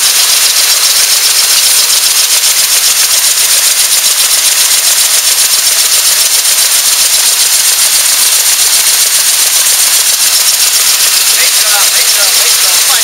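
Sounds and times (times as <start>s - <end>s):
machine hissing whir and rattle: 0.0s - 13.0s.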